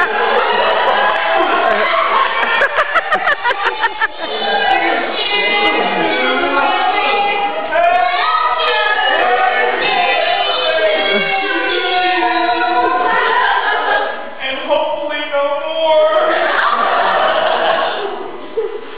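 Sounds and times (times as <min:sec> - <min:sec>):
group singing without instruments: 0:00.0 - 0:18.4.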